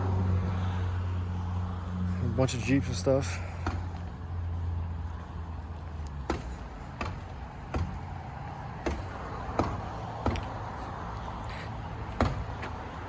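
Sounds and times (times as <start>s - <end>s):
footsteps on pavement: 0.1s - 13.0s.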